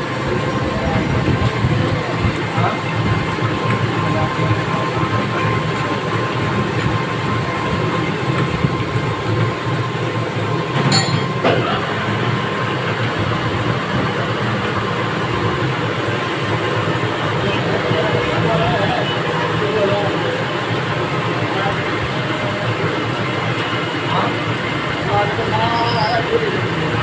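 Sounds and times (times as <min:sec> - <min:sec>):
metal lathe running: 0:00.0 - 0:27.0.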